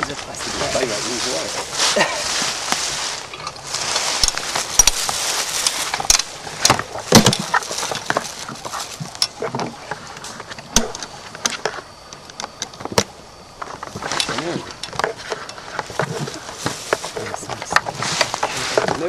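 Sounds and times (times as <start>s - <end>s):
rustling handling noise: 0.0s - 11.9s, 12.5s - 19.0s.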